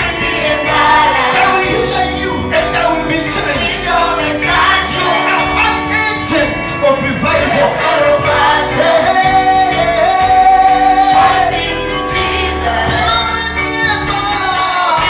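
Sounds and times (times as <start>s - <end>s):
gospel singing: 0.0s - 15.0s
instrumental backing: 0.0s - 15.0s.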